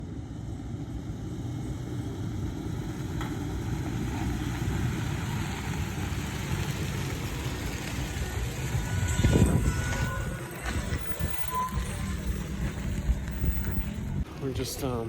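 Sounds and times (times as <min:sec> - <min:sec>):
truck engine low rumble: 0:00.0 - 0:15.0.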